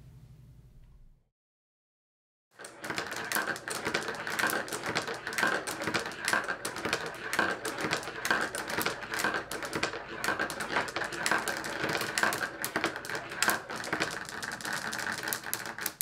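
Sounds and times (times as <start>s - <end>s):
glass marbles rolling and clicking: 2.6s - 16.0s.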